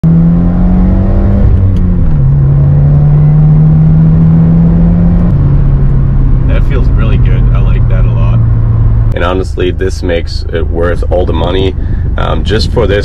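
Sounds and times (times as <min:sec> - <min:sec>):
car engine droning from cabin: 0:00.0 - 0:13.0.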